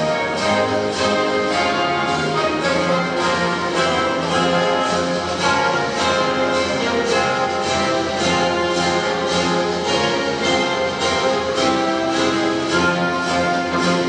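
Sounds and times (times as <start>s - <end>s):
orchestral music over loudspeakers: 0.0s - 14.0s.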